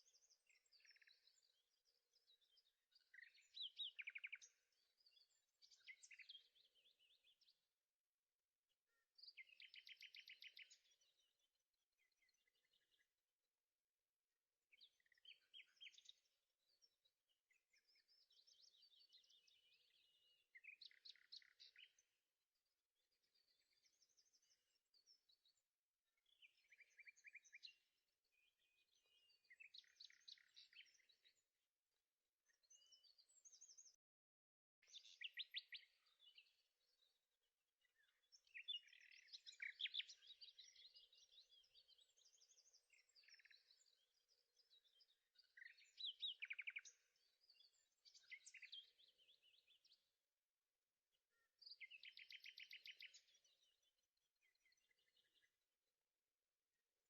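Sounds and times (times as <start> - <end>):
faint birds chirping: 0.0 - 57.0.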